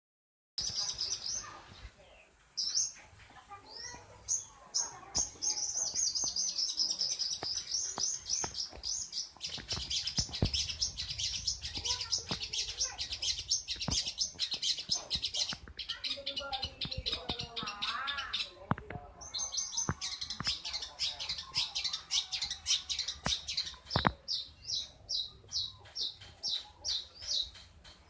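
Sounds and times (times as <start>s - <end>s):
bird singing: 3.7s - 28.0s
sharp bird calls: 3.7s - 28.0s.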